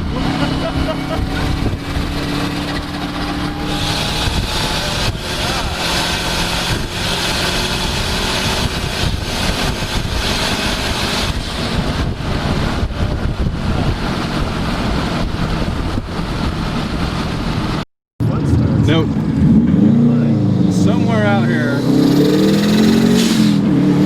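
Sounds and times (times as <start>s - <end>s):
rally car engine running hard: 0.0s - 24.0s
wind and tyre noise: 0.0s - 24.0s.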